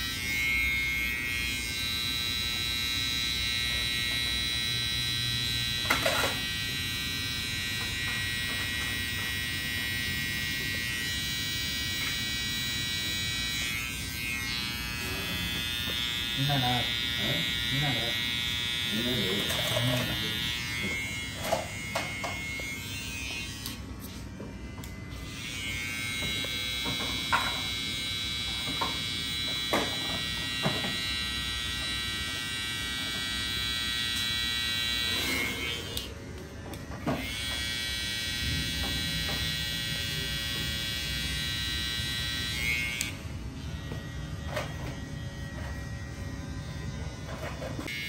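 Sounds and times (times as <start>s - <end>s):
hair clippers buzzing: 0.0s - 48.0s.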